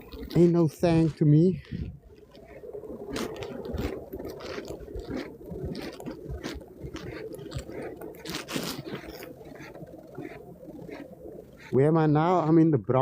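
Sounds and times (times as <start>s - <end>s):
footsteps crunching through snow: 0.0s - 11.0s.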